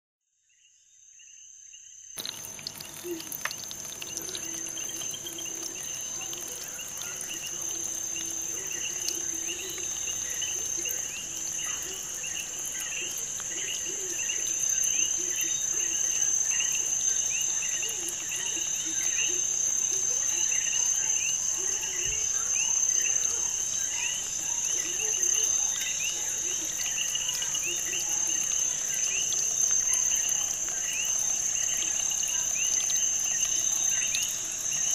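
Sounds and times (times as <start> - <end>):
high-pitched insect drone: 2.2 - 34.9.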